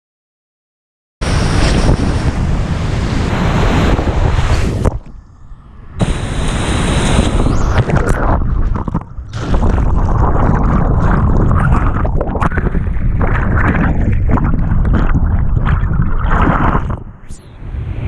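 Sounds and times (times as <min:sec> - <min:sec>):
wind buffeting microphone: 0:01.2 - 0:18.0.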